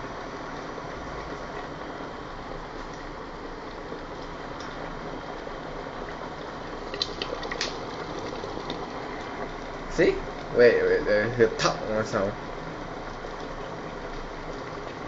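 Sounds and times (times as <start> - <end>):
kettle water boiling: 0.0 - 15.0.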